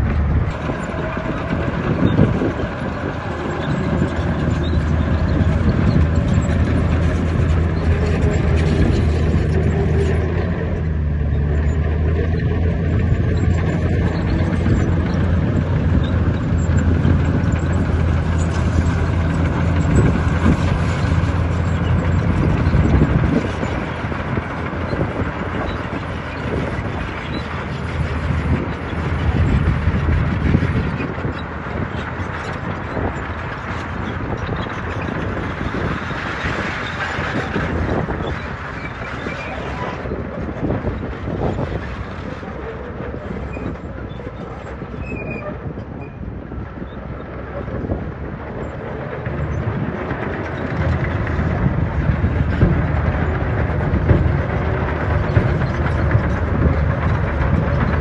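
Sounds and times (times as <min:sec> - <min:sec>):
heavy diesel engine drone: 0:00.0 - 0:58.0
rough mechanical rumble: 0:00.0 - 0:58.0.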